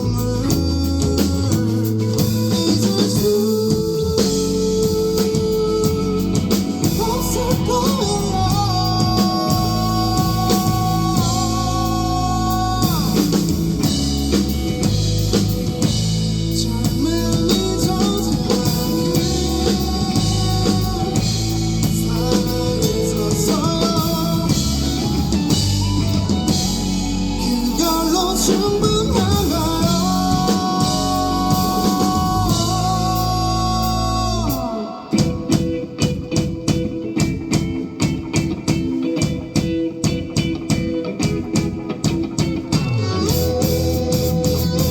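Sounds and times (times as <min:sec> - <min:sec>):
bass guitar: 0:00.0 - 0:44.9
drum kit: 0:00.0 - 0:44.9
electric guitar: 0:00.0 - 0:44.9
person singing: 0:00.0 - 0:44.9.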